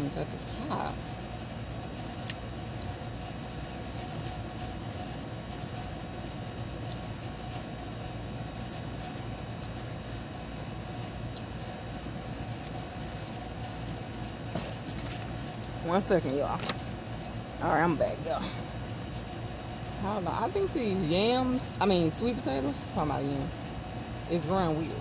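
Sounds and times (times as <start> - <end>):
faint steady whine: 0.0 - 25.0
low mechanical rumble: 0.0 - 25.0.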